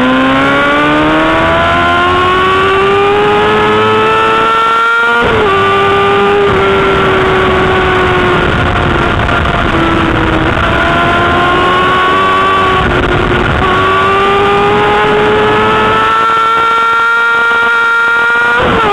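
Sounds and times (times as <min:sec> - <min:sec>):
motorcycle engine at high revs: 0:00.0 - 0:18.9
wind rushing over microphone: 0:00.0 - 0:18.9.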